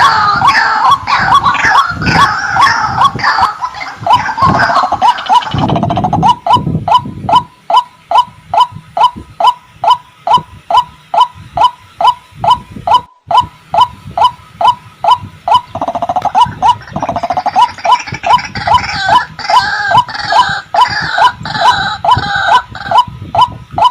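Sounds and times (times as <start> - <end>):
waterhen calling: 0.0 - 23.9.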